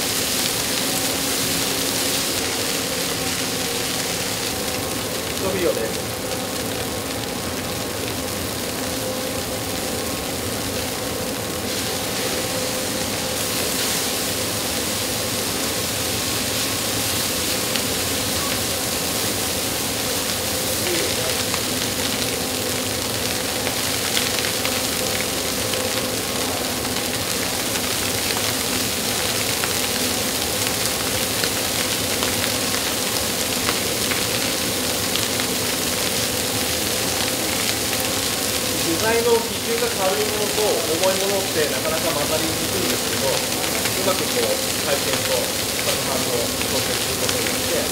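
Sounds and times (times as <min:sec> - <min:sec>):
rice frying hiss: 0:00.0 - 0:47.9.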